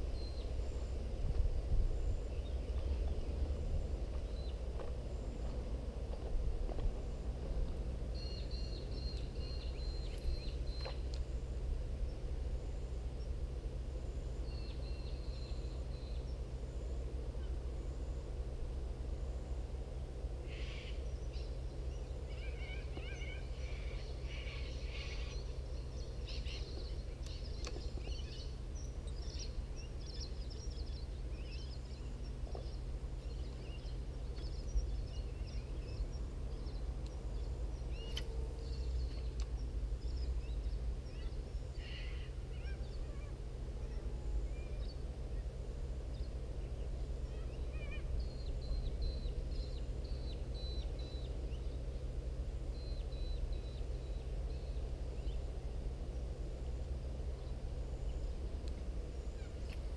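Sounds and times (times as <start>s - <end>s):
birds chirping: 0.0s - 1.1s, 1.8s - 19.4s, 20.2s - 59.9s
low rumble: 0.0s - 59.9s.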